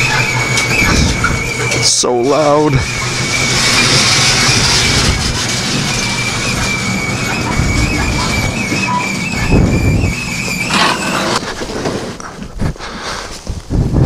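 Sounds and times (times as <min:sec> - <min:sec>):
garage door rattling and squealing: 0:00.0 - 0:12.0.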